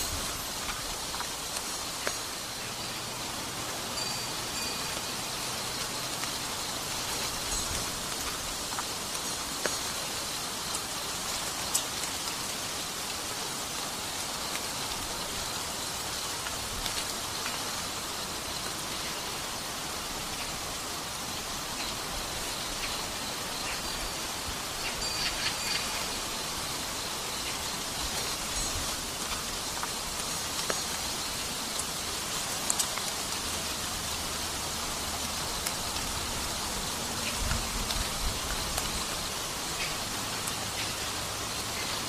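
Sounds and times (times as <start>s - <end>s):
steady rainfall hiss: 0.0s - 42.0s
ticks of raindrops: 0.0s - 42.0s.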